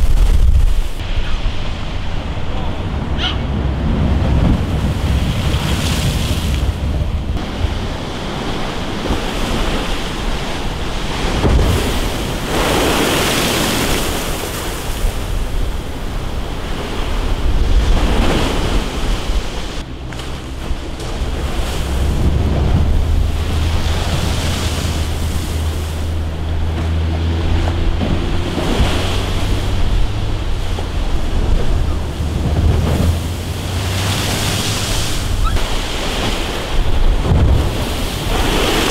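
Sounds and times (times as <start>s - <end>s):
surf crashing against seawall: 0.0s - 38.9s
wind buffeting microphone: 0.0s - 38.9s.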